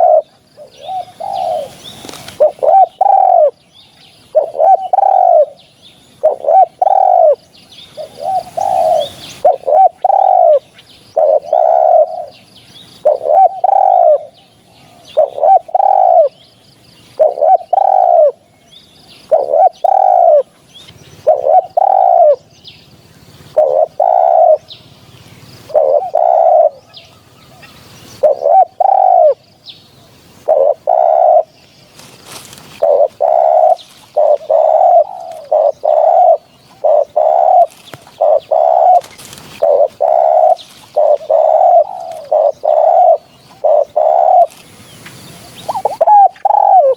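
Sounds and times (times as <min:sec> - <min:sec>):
dove cooing: 0:00.0 - 0:03.6, 0:04.2 - 0:16.4, 0:17.0 - 0:18.5, 0:19.2 - 0:29.4, 0:30.0 - 0:46.9.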